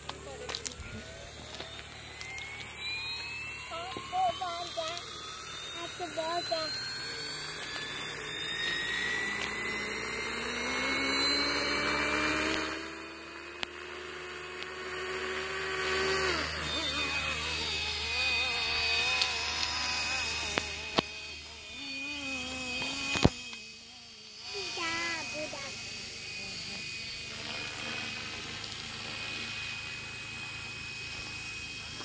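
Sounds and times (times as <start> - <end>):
rc helicopter motor whine: 0.0 - 32.0.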